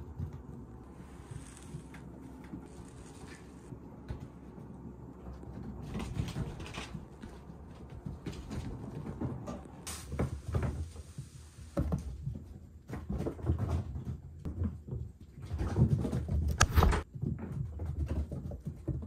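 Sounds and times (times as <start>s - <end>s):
cats' paws pattering on floor: 0.0s - 19.0s.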